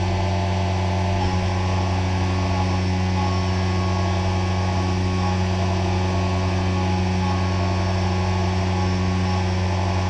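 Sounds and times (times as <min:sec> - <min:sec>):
milling machine cutting metal: 0:00.0 - 0:10.0.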